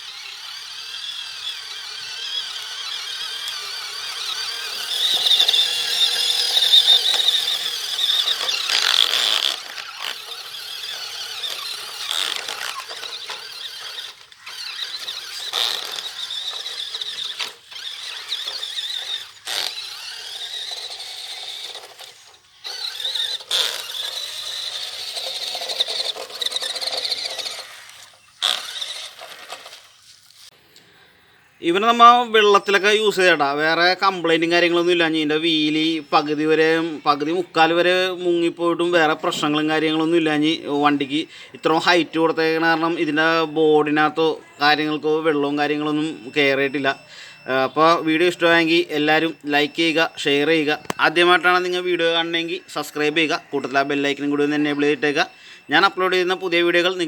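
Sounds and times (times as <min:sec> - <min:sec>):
small electric motor whining: 0:00.0 - 0:30.6, 0:32.6 - 0:57.0.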